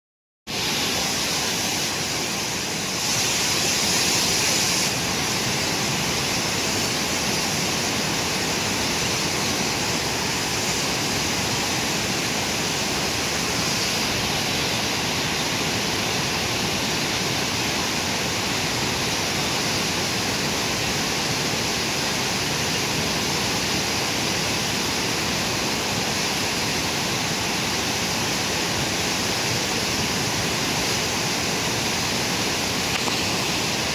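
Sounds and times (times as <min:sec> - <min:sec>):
river rushing: 0:00.5 - 0:33.9.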